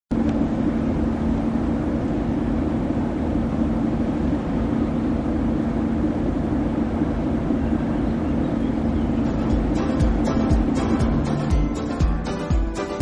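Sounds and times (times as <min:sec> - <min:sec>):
ship diesel engines droning: 0:00.4 - 0:13.0.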